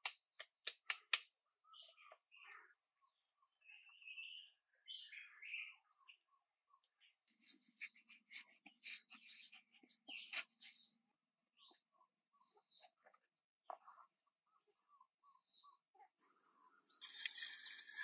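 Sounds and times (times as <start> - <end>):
faint high chirping calls: 0.2 - 18.0.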